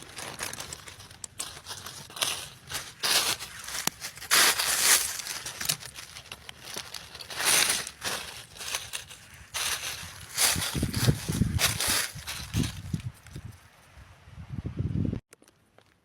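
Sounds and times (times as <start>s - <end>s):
rustling in dry leaf litter: 0.0s - 13.8s.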